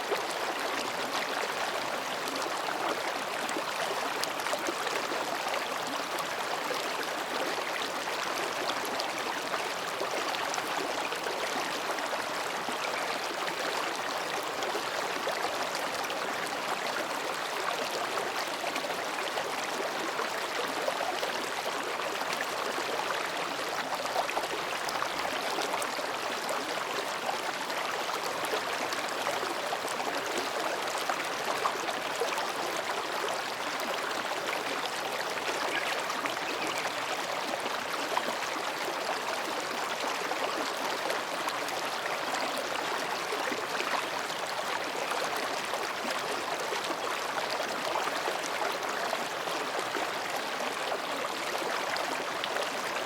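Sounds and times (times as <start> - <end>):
stream babbling over rocks: 0.0 - 53.0.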